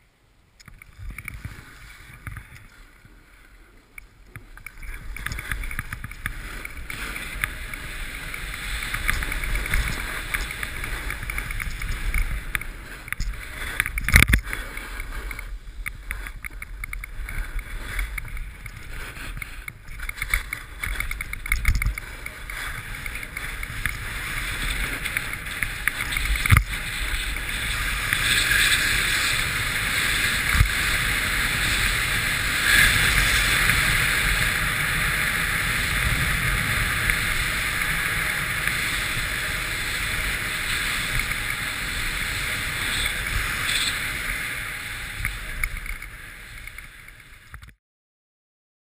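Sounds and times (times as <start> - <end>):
snowboard scraping on snow: 1.0 - 47.5.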